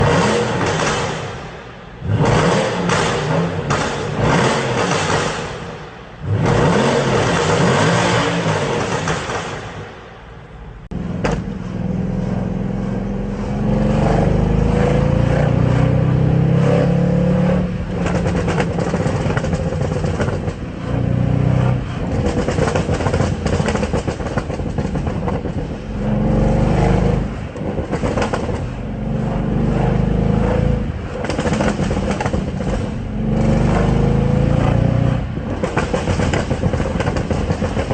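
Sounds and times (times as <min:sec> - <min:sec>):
car engine revving: 0:00.0 - 0:09.7, 0:10.8 - 0:37.9.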